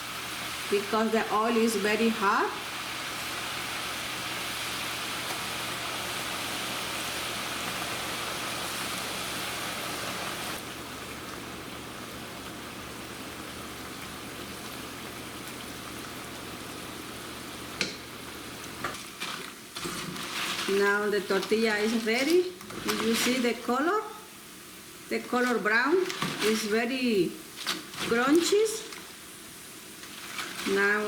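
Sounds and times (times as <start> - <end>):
tortillas sizzling in hot oil: 0.0 - 31.0.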